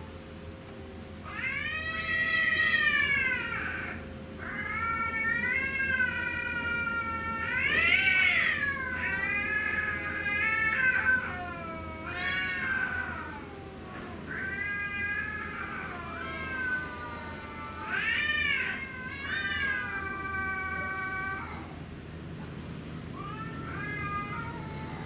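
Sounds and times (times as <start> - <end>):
cats yowling: 0.0 - 21.9, 23.0 - 25.0.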